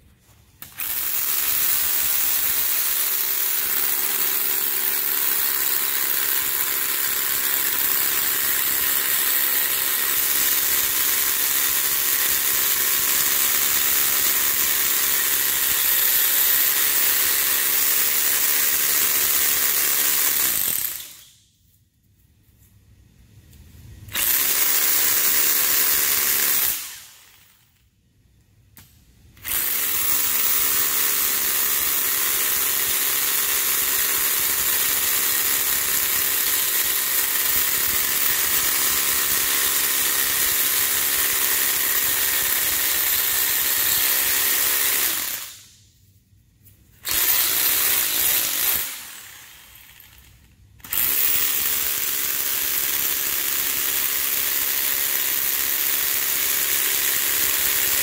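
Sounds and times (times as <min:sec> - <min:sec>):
electric drill boring into concrete: 0:00.6 - 0:21.4, 0:24.1 - 0:27.5, 0:29.4 - 0:45.7, 0:47.0 - 0:58.0.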